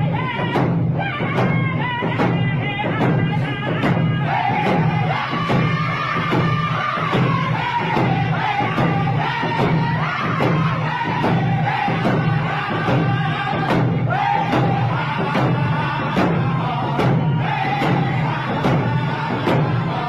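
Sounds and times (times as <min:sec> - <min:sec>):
frame drums beating: 0:00.0 - 0:20.0
group of singers chanting: 0:00.0 - 0:20.0.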